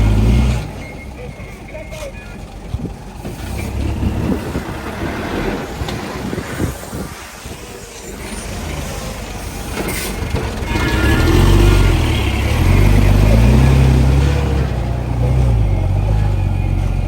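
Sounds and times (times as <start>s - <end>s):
crawler tracks clanking and squealing: 0.0s - 17.0s
diesel engine rumbling: 0.0s - 17.0s.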